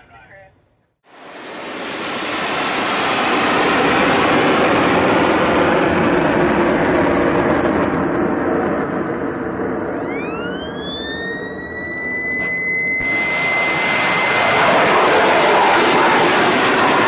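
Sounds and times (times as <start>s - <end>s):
rising whine: 1.1s - 17.0s
rocket motor rushing roar: 1.1s - 17.0s.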